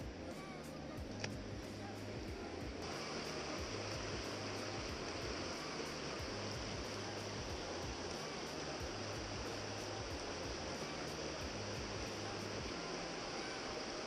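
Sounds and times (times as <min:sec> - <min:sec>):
river rushing over rocks: 0:00.1 - 0:14.0.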